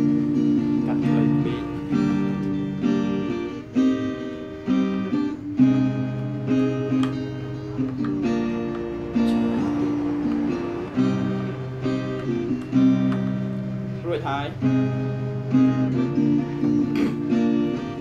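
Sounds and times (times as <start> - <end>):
acoustic guitar tune: 0.0 - 18.0.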